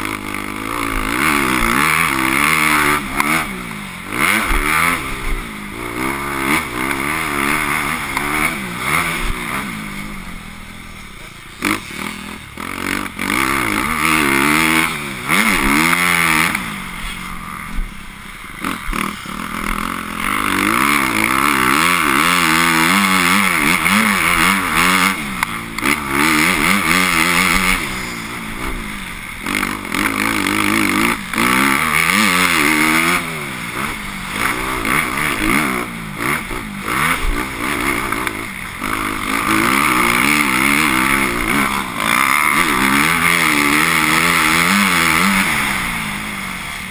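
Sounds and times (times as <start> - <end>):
motocross bike engine revving: 0.0 - 46.9
steady rushing noise: 0.0 - 46.9.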